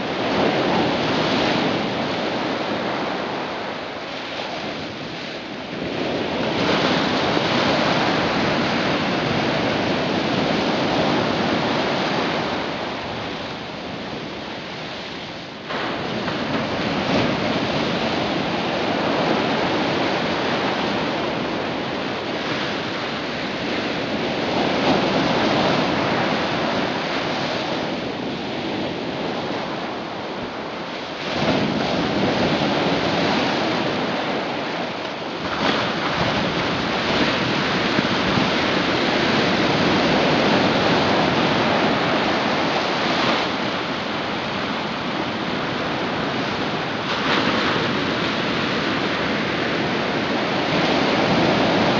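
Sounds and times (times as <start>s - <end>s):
sea water churning: 0.0s - 51.9s.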